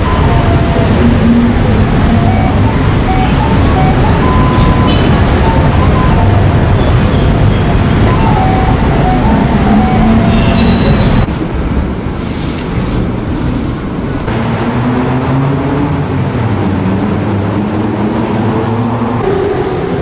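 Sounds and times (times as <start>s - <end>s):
city traffic rumble: 0.0s - 20.0s
passing train: 0.0s - 20.0s.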